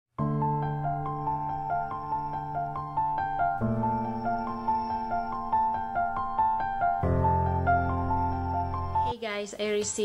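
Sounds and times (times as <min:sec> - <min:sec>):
calm new-age music: 0:00.2 - 0:09.2.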